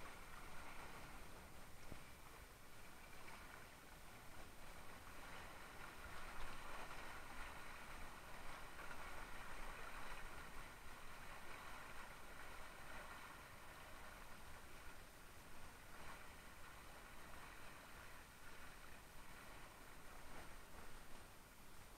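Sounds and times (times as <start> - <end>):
water rushing along hull: 0.0 - 21.9.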